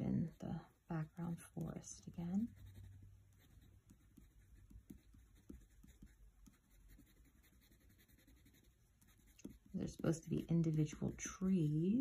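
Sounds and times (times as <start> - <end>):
crayon scratching on paper: 0.0 - 11.8.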